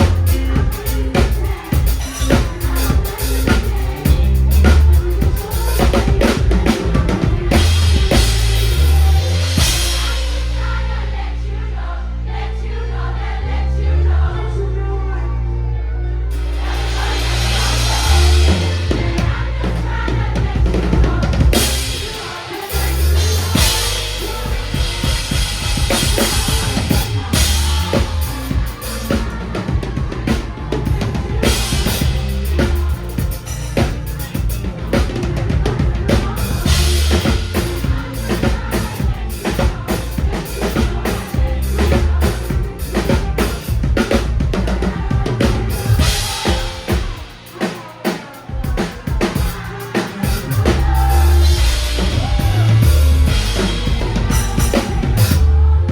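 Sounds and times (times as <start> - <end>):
drum kit hits: 0.0 - 10.8, 16.4 - 55.6
band music: 0.0 - 13.4, 15.9 - 55.9
deep heavy bass line: 0.0 - 47.5, 48.5 - 55.9.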